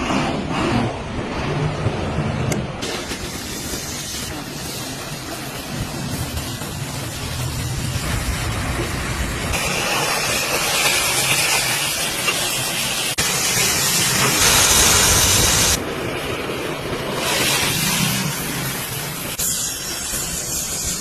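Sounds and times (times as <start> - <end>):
cutting torch jet hissing: 2.8 - 15.8, 17.0 - 21.0.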